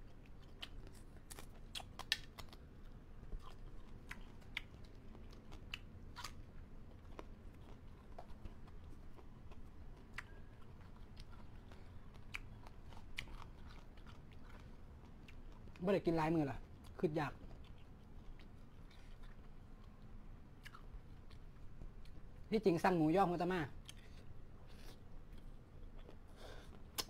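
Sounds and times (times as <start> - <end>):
person chewing food: 0.0 - 15.8, 16.6 - 22.5, 23.8 - 27.0.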